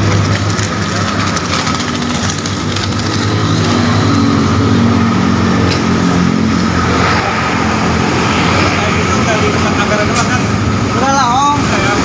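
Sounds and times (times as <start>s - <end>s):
heavy engine humming past: 0.0s - 12.0s
passing vehicles: 0.0s - 12.0s.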